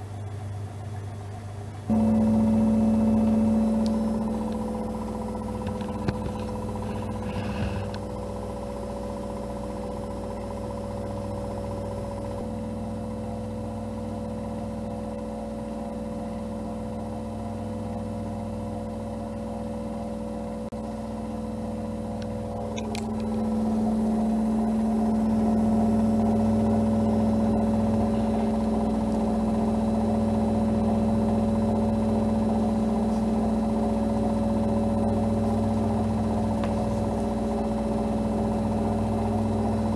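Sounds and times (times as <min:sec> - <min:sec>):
washing machine spin hum: 0:00.0 - 0:39.9.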